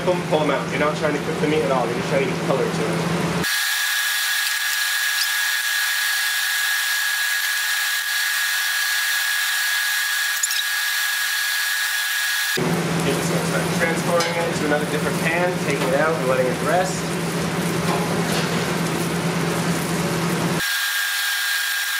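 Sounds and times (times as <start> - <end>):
meat frying in hot oil: 3.2 - 21.9.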